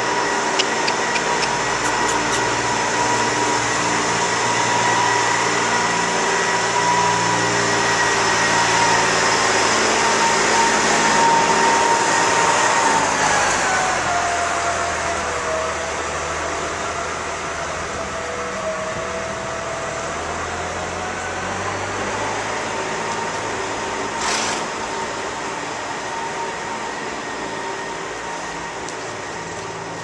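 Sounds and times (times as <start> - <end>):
mechanical drone with whine: 0.0 - 30.0.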